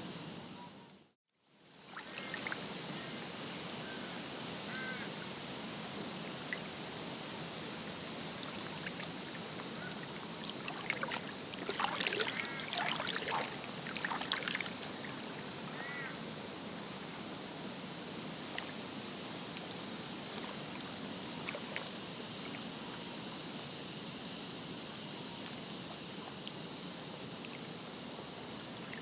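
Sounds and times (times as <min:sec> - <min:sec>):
hiss of water and air: 0:01.6 - 0:29.0.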